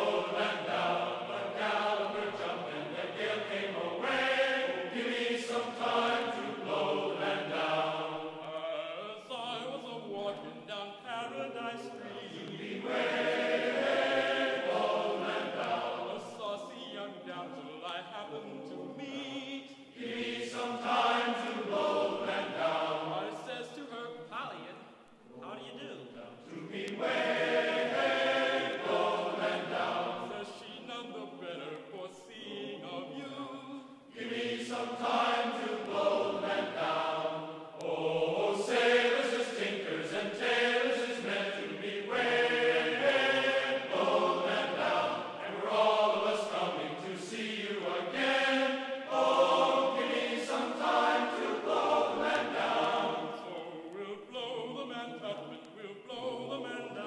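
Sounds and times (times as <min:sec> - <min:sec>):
choir singing: 0:00.0 - 0:24.6, 0:25.3 - 0:57.0.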